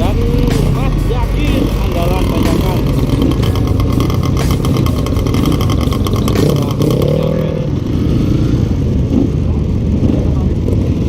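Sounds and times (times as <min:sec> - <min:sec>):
motorcycle engine running: 0:00.0 - 0:11.0
second engine rising in pitch: 0:00.0 - 0:11.0.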